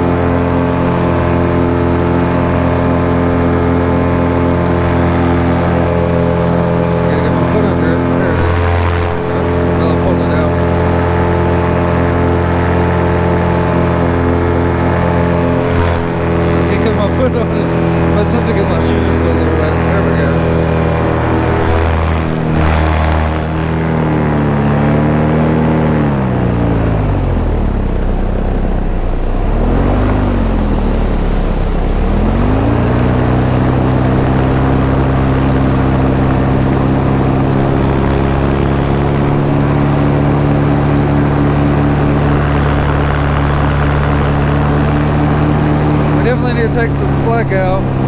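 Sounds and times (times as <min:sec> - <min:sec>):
paramotor engine and propeller: 0:00.0 - 0:48.0.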